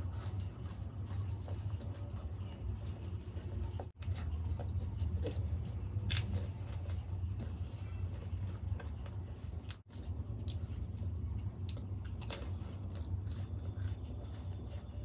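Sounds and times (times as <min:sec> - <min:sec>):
crunchy chewing: 0:00.0 - 0:15.0
steady low hum: 0:00.0 - 0:15.0.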